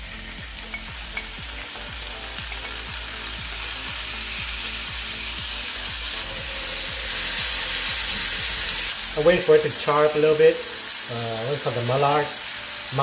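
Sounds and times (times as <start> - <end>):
steak sizzling in skillet: 0.0 - 13.0.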